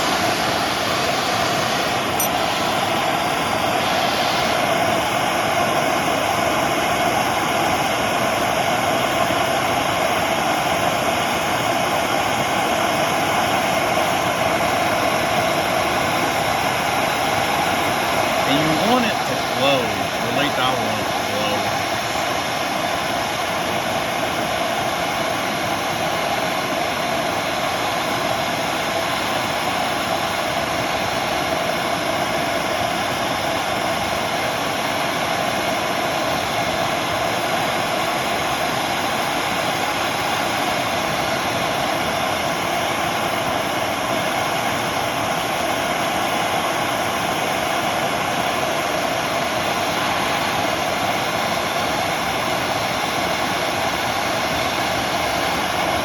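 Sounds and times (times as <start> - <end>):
gas torch flame roaring: 0.0 - 56.0.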